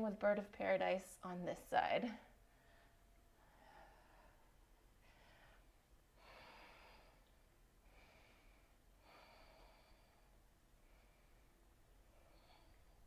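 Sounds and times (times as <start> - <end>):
faint breaths: 2.2 - 13.0.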